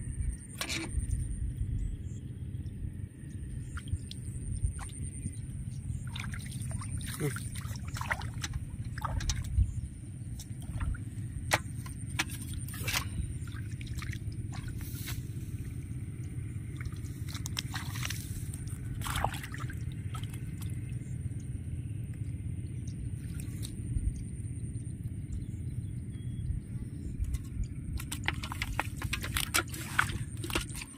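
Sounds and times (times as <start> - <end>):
low rumble: 0.0 - 30.9.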